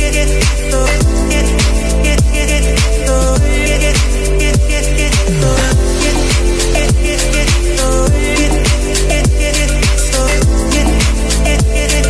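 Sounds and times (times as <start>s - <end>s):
deep pitch-dropping drum hits: 0.5s - 11.8s.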